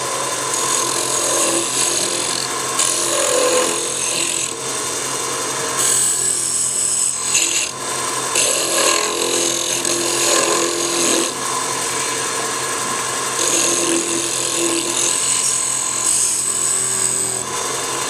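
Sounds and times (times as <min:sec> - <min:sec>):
chisel cutting wood hiss: 0:00.0 - 0:18.0
wood lathe running: 0:00.0 - 0:18.0.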